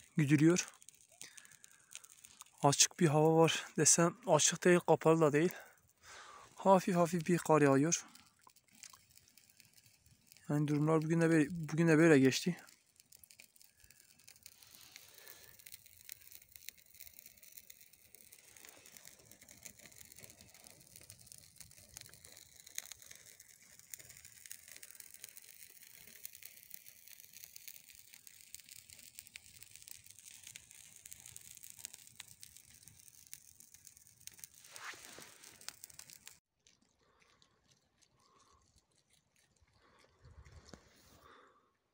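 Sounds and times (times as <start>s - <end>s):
faint outdoor hiss: 0.0s - 36.4s
small crackles and rustles: 0.0s - 41.6s.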